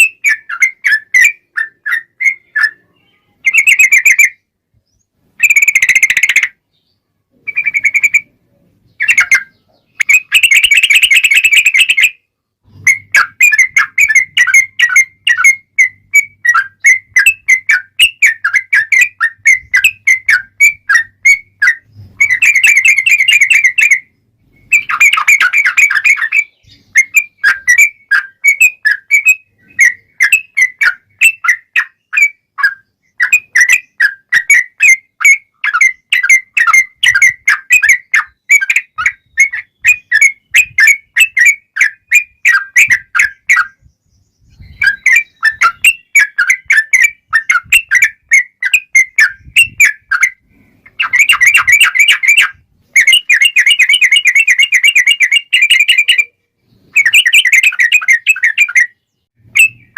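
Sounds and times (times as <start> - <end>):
bulbul chattering song: 0.0 - 59.9.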